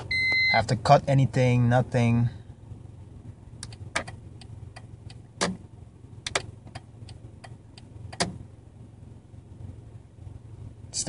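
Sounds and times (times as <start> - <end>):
car engine idling hum: 0.0 - 11.0.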